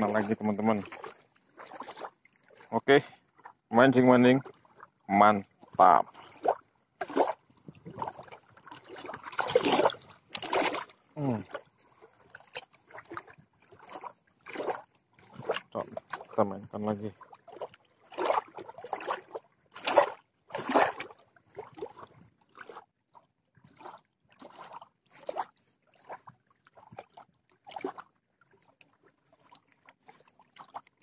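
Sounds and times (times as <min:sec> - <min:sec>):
water lapping at shore: 0:00.0 - 0:31.0.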